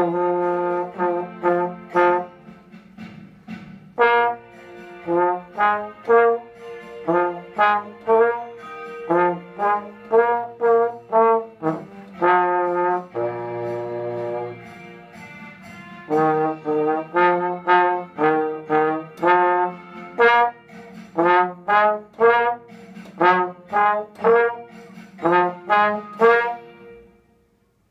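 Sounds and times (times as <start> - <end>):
slide trombone melody: 0.0 - 3.2, 3.9 - 27.4.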